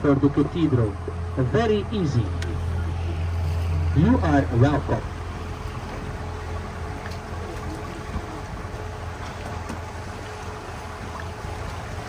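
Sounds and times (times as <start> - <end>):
boat motor humming: 0.0 - 12.0
water along hull: 0.0 - 12.0.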